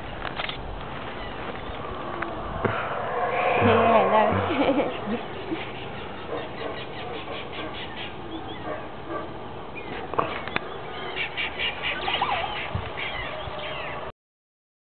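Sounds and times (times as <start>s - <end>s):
birds chattering: 1.0s - 14.1s.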